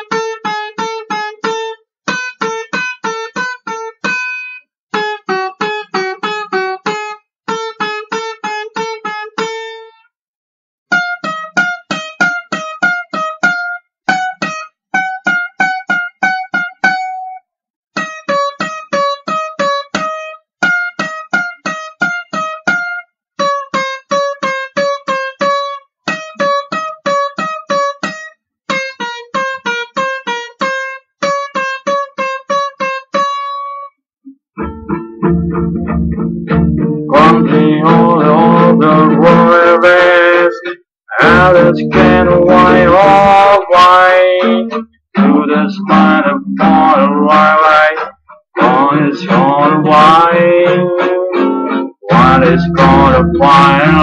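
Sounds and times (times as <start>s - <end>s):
banjo country melody: 0.0s - 10.1s, 10.9s - 17.4s, 18.0s - 34.0s, 34.6s - 54.0s.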